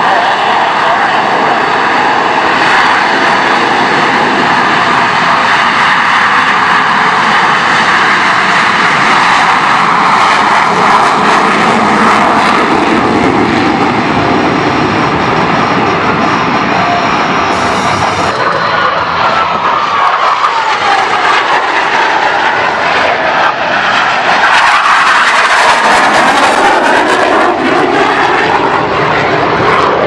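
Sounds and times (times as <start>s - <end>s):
jet engines taking off: 0.0s - 30.0s.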